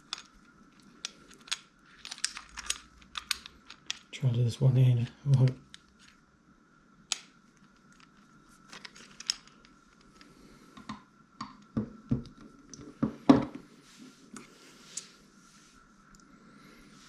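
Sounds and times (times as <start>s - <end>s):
faint steady high hum: 0.0s - 17.0s.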